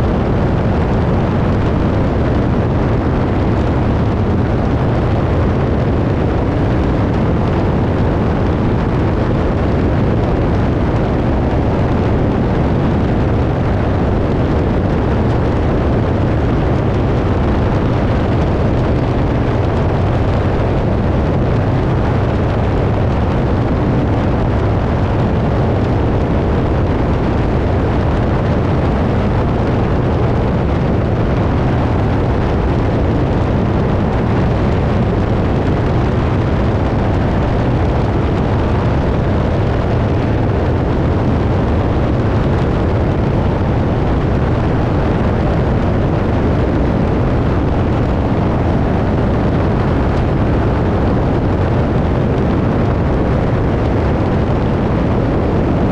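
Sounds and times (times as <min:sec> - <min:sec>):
plane engine and propeller drone: 0:00.0 - 0:55.9
wind rush: 0:00.0 - 0:55.9.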